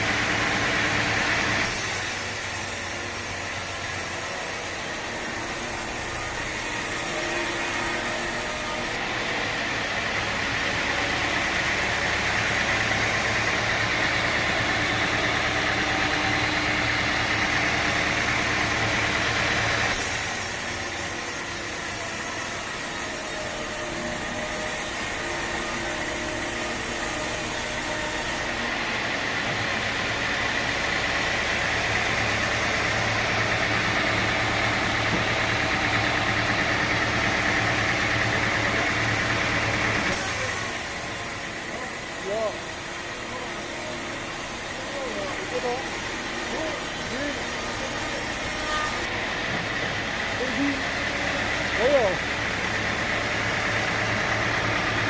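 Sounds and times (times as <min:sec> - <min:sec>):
sawmill machinery hum and whine: 0:00.0 - 0:55.0.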